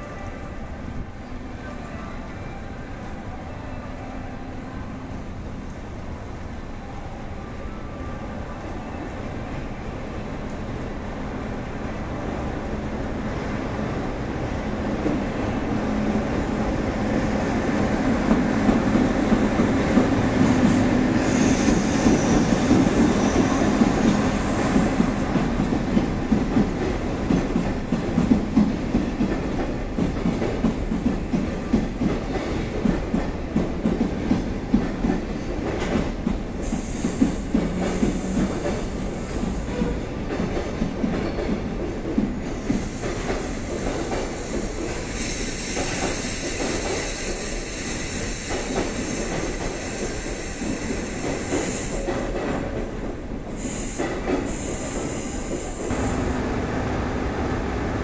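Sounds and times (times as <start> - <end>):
electric locomotive passing: 0.0 - 58.0.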